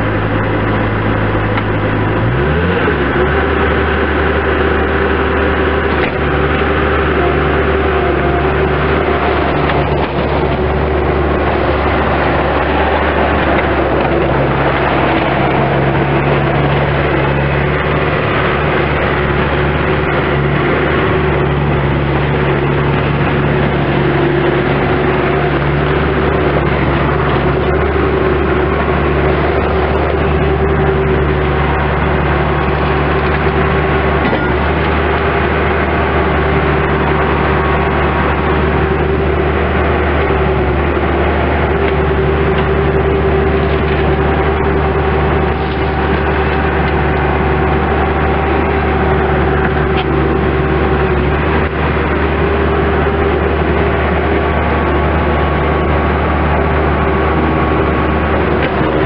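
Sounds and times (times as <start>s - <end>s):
loader diesel engine running: 0.0s - 59.0s.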